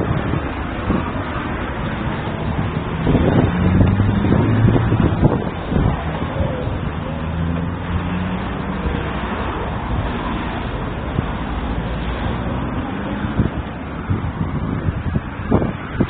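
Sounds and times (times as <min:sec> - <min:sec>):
road traffic noise: 0:00.0 - 0:16.0
vehicle engine hum: 0:00.0 - 0:16.0.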